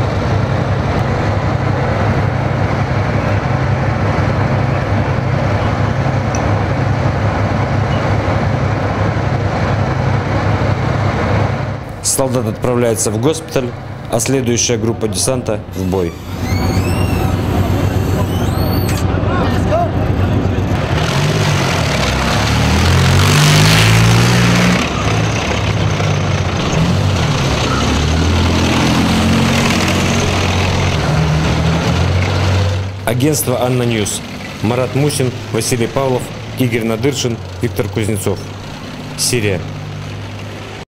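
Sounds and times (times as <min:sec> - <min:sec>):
vehicle engine running: 0:00.0 - 0:40.8.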